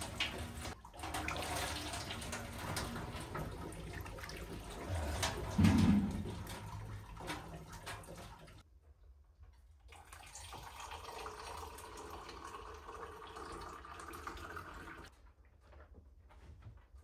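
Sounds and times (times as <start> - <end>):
water being poured: 0.0 - 8.6, 9.9 - 15.1.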